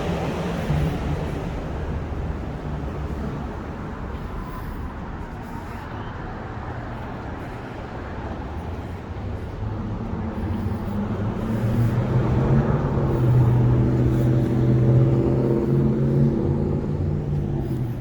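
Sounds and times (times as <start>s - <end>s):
car engine hum: 0.0s - 18.0s
vehicle approaching: 0.0s - 18.0s.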